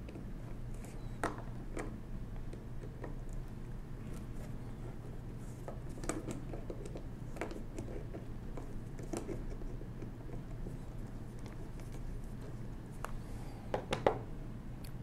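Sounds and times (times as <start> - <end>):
small clicks and scrapes: 0.0 - 13.2.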